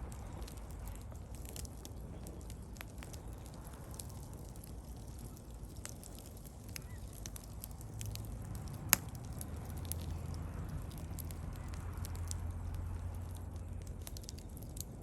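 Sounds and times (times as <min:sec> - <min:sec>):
bonfire crackling and popping: 0:00.0 - 0:15.0
fire rumbling: 0:00.0 - 0:15.0.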